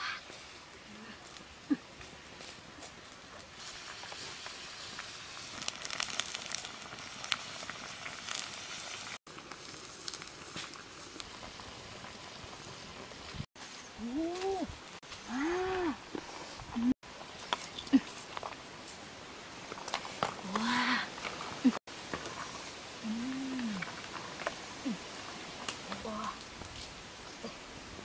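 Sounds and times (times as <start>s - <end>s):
water boiling: 0.0s - 28.0s
wood fire crackling: 0.0s - 28.0s.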